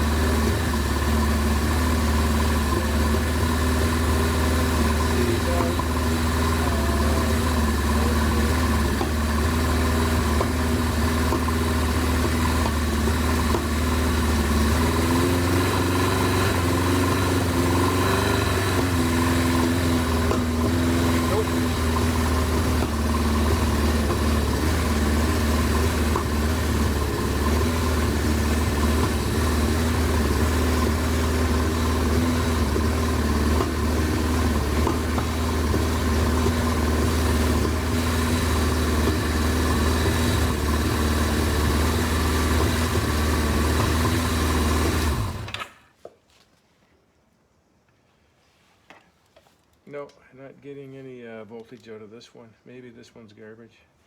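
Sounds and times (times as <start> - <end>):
motorcycle engine idling: 0.0 - 45.6.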